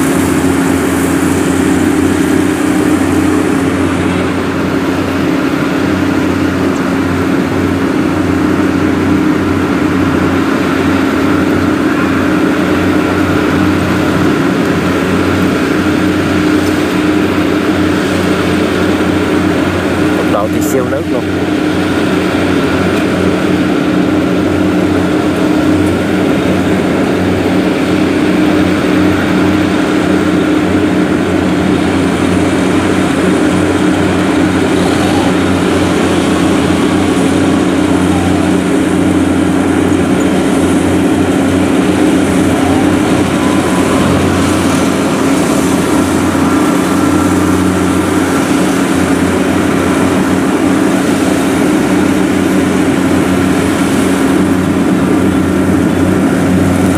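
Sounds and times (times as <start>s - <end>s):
combine harvester engines droning: 0.0s - 56.9s.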